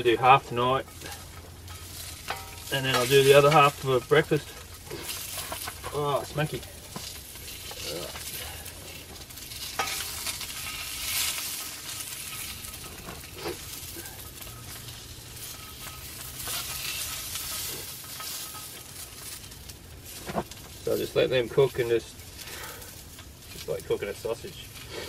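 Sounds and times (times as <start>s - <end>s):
sausages sizzling in a frying pan: 0.0s - 25.0s.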